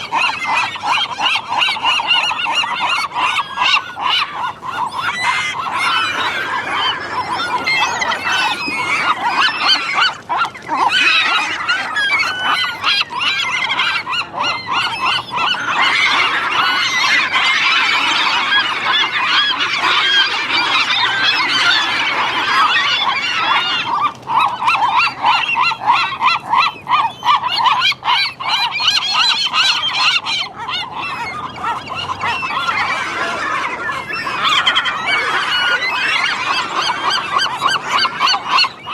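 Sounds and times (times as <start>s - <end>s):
gulls squawking: 0.0s - 38.9s.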